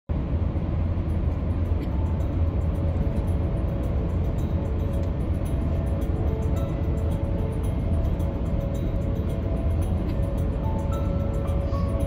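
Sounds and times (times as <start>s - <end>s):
car road and engine rumble: 0.1s - 12.0s
faint music: 0.2s - 12.0s.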